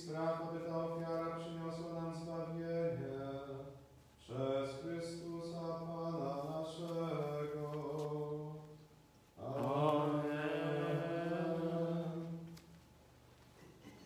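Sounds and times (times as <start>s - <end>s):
man singing slow chant: 0.0s - 8.8s, 9.4s - 12.5s.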